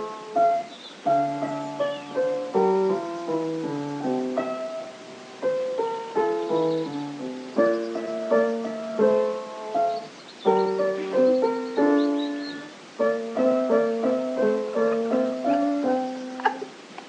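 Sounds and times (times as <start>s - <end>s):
gentle piano music: 0.0s - 16.9s.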